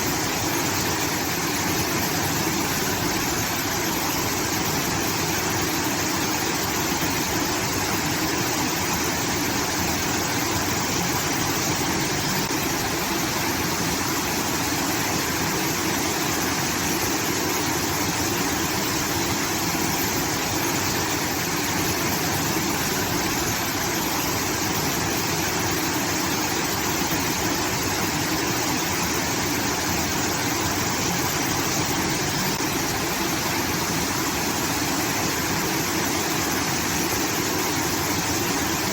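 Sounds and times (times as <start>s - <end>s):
water rushing from an outlet: 0.0s - 38.9s.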